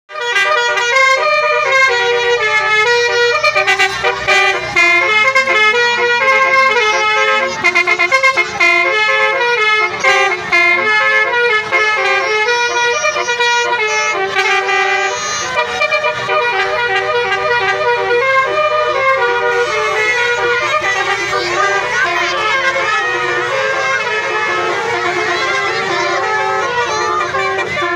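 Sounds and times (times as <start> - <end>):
musical air horns playing a tune: 0.1 - 27.9.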